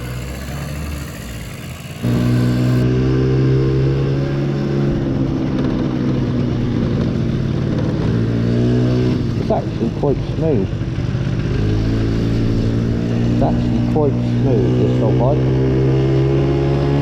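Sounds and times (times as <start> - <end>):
scooter engine running: 0.0 - 3.6, 4.7 - 15.3.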